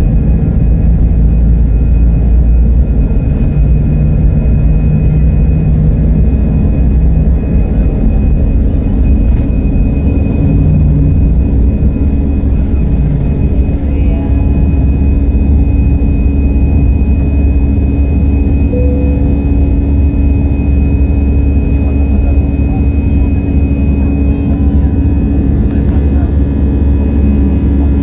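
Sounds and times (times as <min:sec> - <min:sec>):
airliner engines rumbling: 0:00.0 - 0:28.0
high engine whine: 0:00.0 - 0:28.0.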